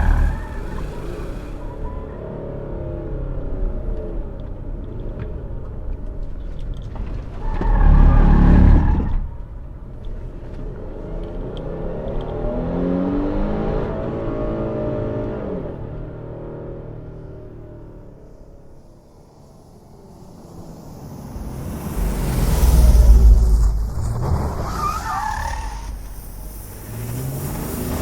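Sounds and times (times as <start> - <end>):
car engine driving: 0.0 - 14.4, 17.1 - 28.0.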